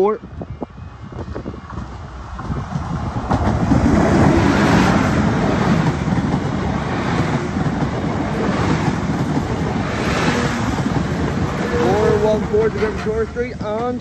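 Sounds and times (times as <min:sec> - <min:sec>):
passenger train passing: 0:00.0 - 0:14.0.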